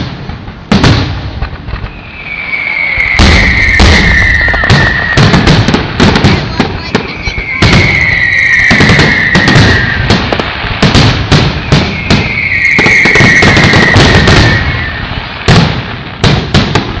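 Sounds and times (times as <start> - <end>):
fireworks bangs and crackles: 0.0 - 17.0
firework whistle: 1.7 - 15.8.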